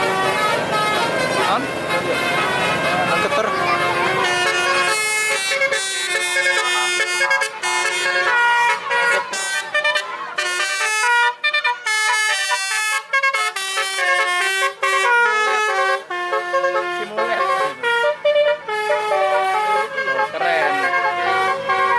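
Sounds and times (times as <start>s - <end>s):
musical air horn playing melody: 0.0s - 21.9s.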